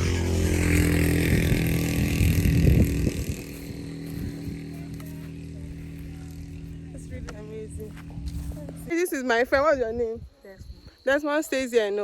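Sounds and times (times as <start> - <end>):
vehicle engine humming: 0.0 - 11.1.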